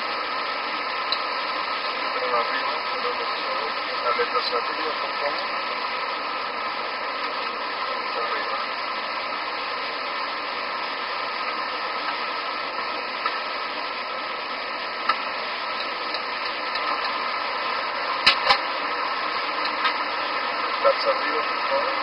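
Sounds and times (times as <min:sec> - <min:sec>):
cockpit engine and airflow rush: 0:00.0 - 0:22.0.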